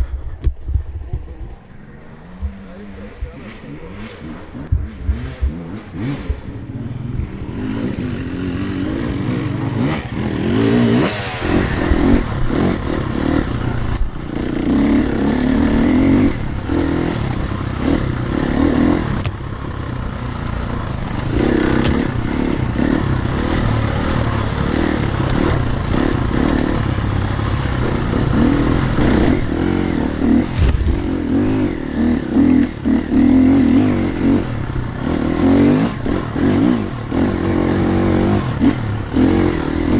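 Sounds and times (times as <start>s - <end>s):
dirt bike engine revving: 2.0s - 39.9s.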